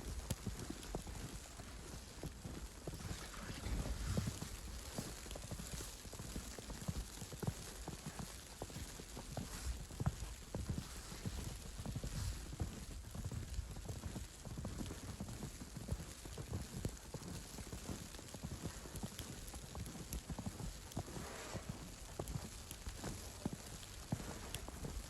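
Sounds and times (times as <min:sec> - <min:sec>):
footsteps crunching in snow: 0:00.0 - 0:25.0.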